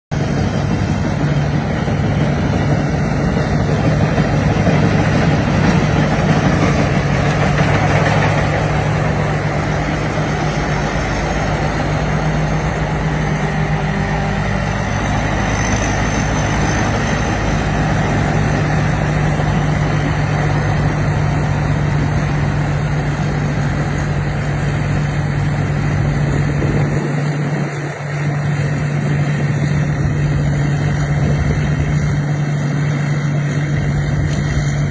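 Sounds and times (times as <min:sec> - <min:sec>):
diesel engine humming: 0:00.1 - 0:34.9.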